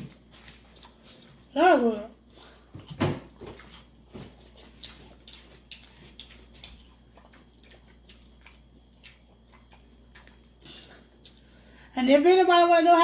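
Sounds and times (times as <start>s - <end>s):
chewing crunchy food: 0.0s - 11.8s.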